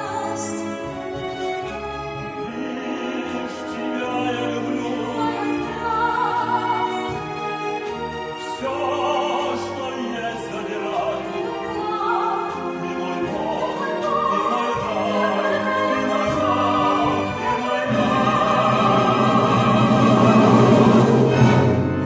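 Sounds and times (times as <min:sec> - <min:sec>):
operatic singing: 0:00.0 - 0:22.0
orchestral accompaniment: 0:00.0 - 0:22.0.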